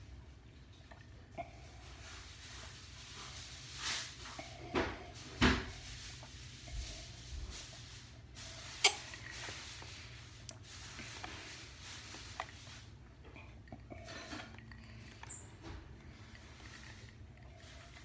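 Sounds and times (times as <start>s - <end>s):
rubbing and rustling: 1.7s - 18.0s.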